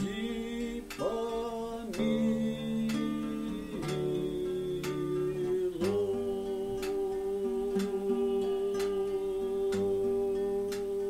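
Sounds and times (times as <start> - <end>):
acoustic guitar strumming: 0.0 - 11.0
man singing a long note: 0.0 - 11.0.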